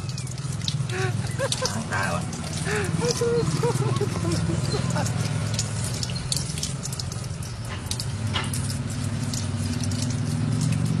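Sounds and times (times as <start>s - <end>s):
hose water spraying and pattering: 0.0s - 11.0s.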